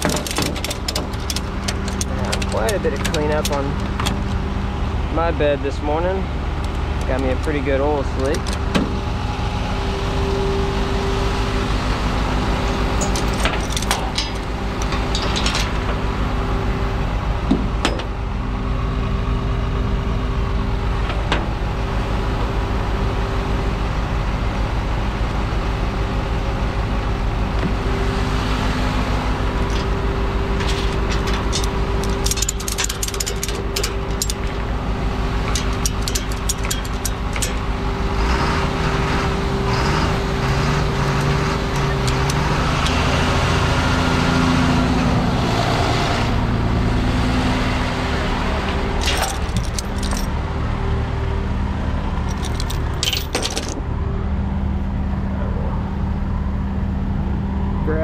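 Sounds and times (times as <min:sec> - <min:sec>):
constant hum: 0:00.0 - 0:58.0
truck engine idling: 0:00.0 - 0:58.0.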